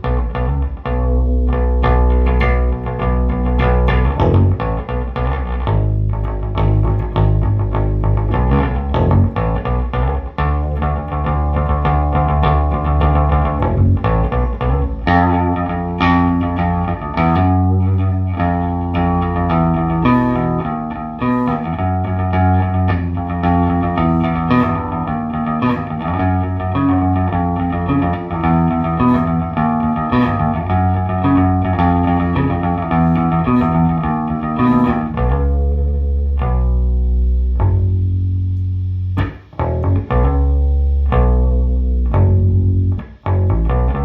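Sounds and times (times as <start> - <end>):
bass guitar plucked notes: 0.0 - 44.0.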